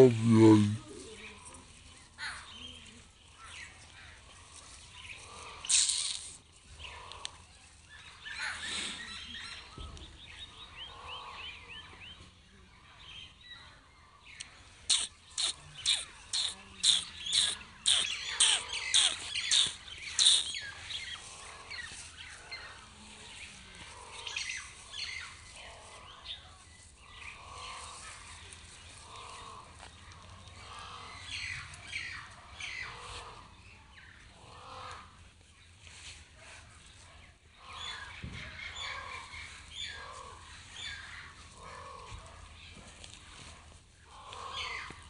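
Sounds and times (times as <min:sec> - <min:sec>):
birds chirping and calling: 0:00.0 - 0:36.2, 0:36.8 - 0:45.0.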